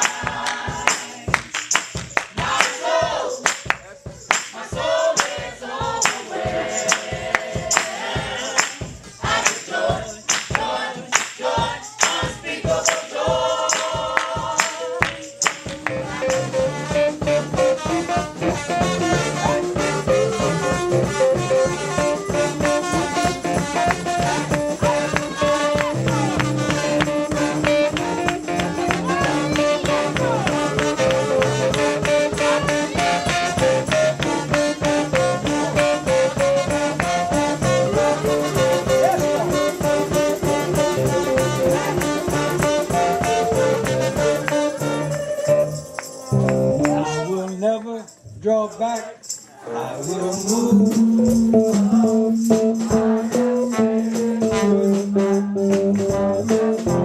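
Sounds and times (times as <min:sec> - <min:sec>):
upbeat gospel band playing: 0:00.0 - 0:57.0.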